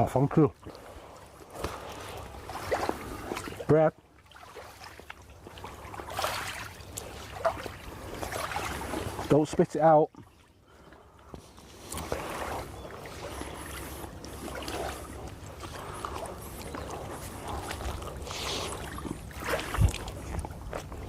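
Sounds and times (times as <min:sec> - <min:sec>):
water lapping: 0:00.0 - 0:21.0.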